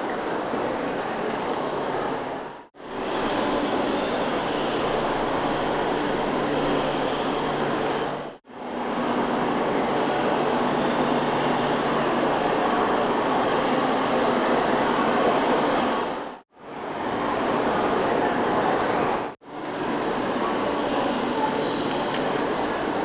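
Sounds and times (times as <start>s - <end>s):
train station ambience: 0.0s - 23.0s.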